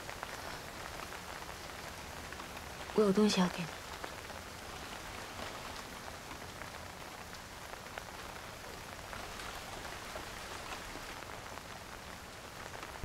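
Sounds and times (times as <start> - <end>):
steady rain: 0.0 - 13.0
water drips: 0.0 - 13.0.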